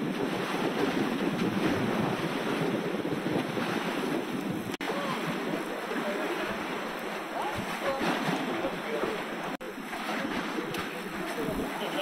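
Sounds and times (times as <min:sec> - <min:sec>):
sea waves washing in: 0:00.0 - 0:12.0
wind buffeting microphone: 0:00.0 - 0:12.0.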